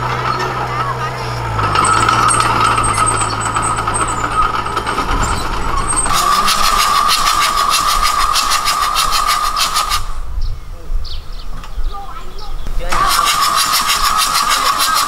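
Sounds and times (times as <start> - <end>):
engine with fast even clatter: 0.0 - 10.2, 12.8 - 15.0
bulldozer diesel engine running: 0.0 - 10.4, 12.8 - 15.0.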